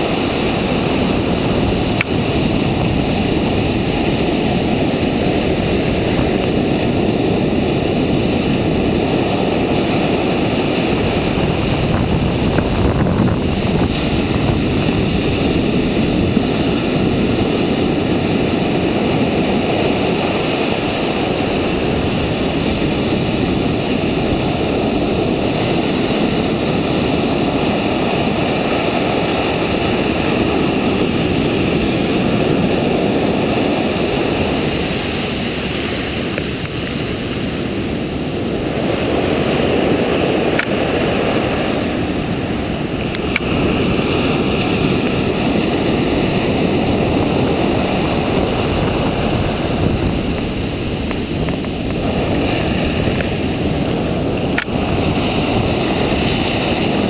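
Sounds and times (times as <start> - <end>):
ocean surf breaking: 0.0 - 57.0.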